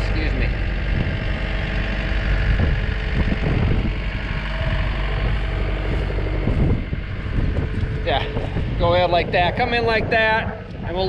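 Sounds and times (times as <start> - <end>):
loader engine idling: 0.0 - 11.0.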